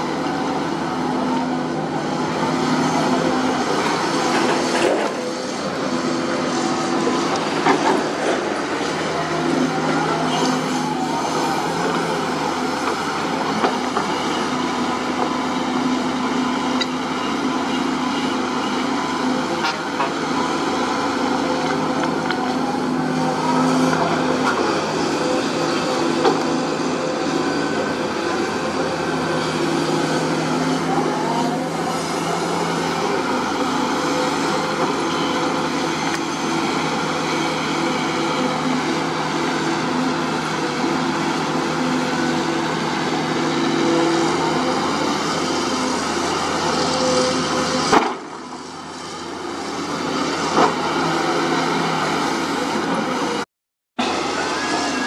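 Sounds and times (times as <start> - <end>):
excavator diesel engine running: 0.0 - 53.4, 54.0 - 55.0.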